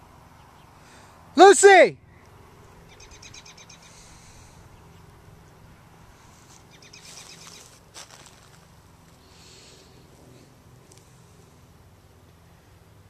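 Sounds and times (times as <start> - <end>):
birds chirping trills: 0.0 - 1.1, 2.0 - 13.0.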